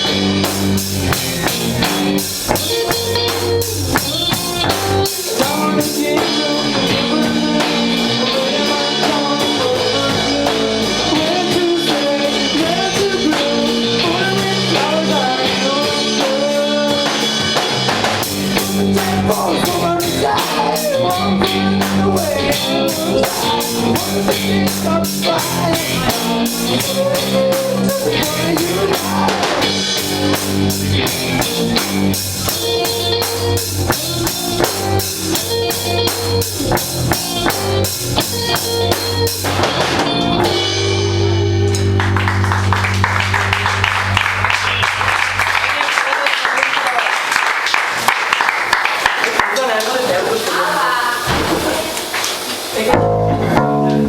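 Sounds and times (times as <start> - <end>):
drum kit: 0.0 - 45.8, 47.3 - 54.0
electric guitar: 0.0 - 46.4, 47.7 - 54.0
rock band playing live: 0.0 - 54.0.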